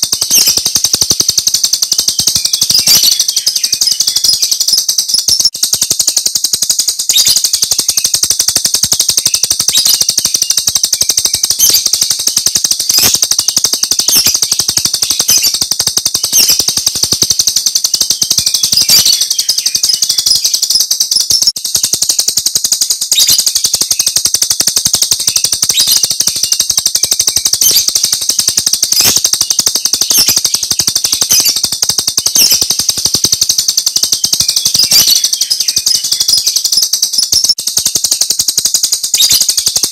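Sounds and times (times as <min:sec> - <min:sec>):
starling singing rattling trill: 0:00.0 - 0:39.9.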